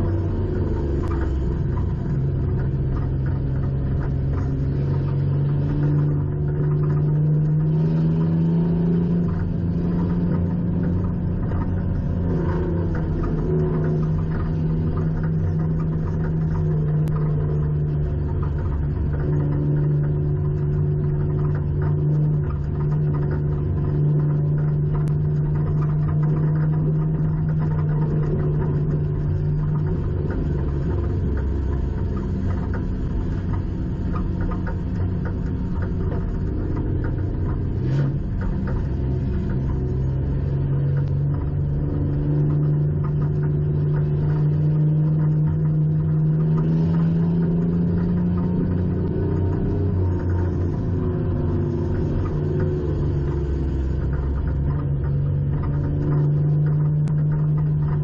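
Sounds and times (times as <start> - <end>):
race car engine running: 0.0 - 58.0
road and tyre rumble: 0.0 - 58.0.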